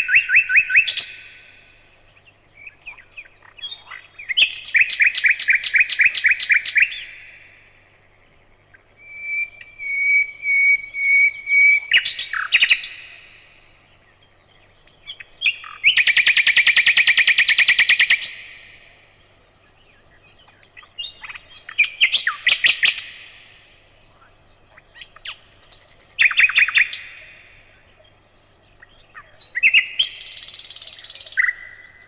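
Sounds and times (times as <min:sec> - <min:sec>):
nightingale singing: 0:00.0 - 0:32.0.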